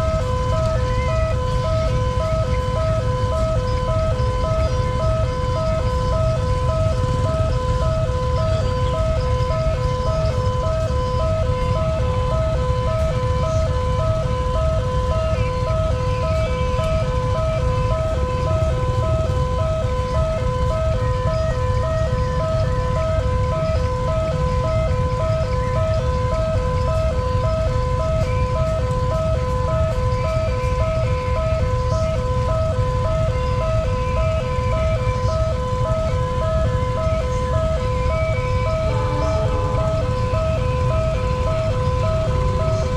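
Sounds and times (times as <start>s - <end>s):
level crossing two-tone siren: 0.0s - 42.9s
steady low rumble: 0.0s - 42.9s.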